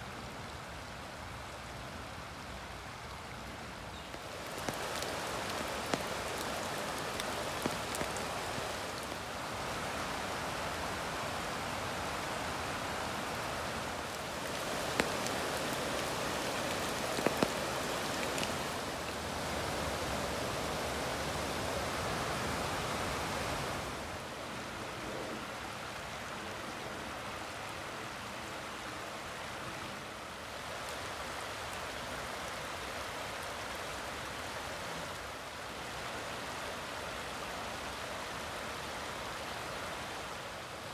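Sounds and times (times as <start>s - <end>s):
creek running over rocks: 0.0s - 40.9s.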